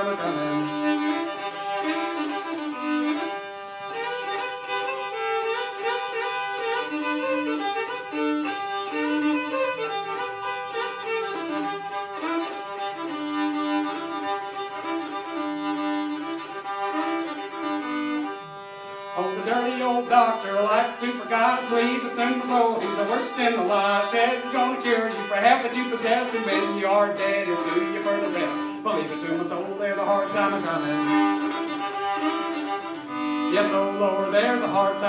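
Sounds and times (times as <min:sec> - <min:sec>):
fiddle melody over drone: 0:00.0 - 0:35.0.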